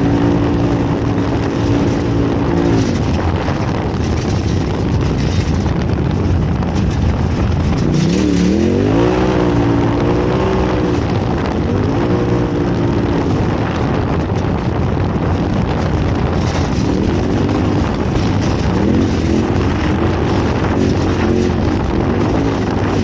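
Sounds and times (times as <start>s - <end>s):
heavy rushing noise: 0.0s - 23.0s
race vehicle engine revving: 0.0s - 23.0s.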